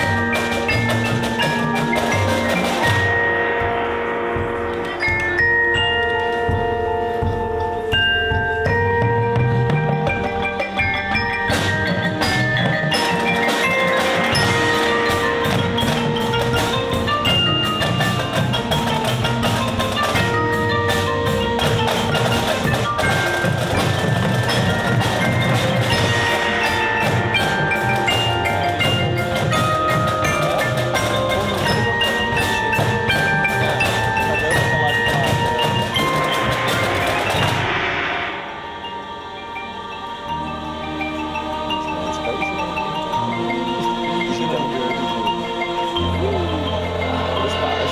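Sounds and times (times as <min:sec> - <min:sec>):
bells and marimba ringing: 0:00.0 - 0:47.9
drum strikes: 0:00.0 - 0:47.9
show band playing: 0:00.0 - 0:47.9.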